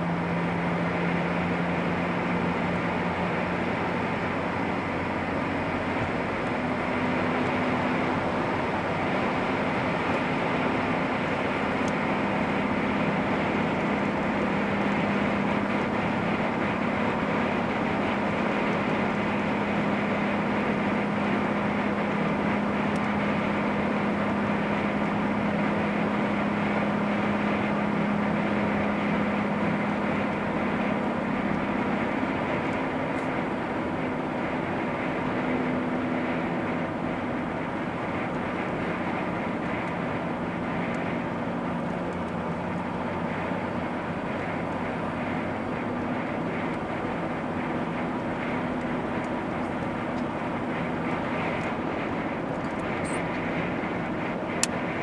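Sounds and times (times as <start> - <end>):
car driving at speed: 0.0 - 55.0.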